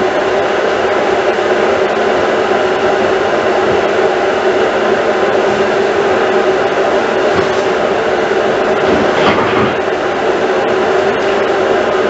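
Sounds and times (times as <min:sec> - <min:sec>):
extractor fan running: 0:00.0 - 0:12.0.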